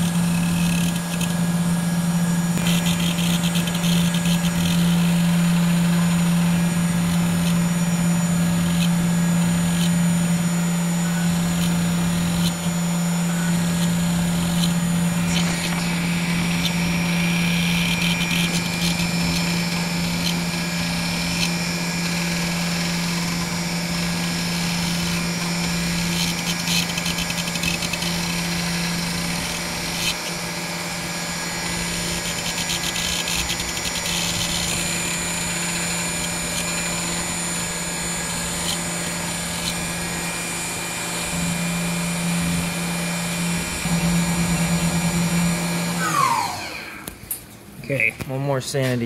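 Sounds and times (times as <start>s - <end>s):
cutter crackling on metal: 0.0s - 47.6s
mill spindle humming and whining: 0.0s - 49.0s.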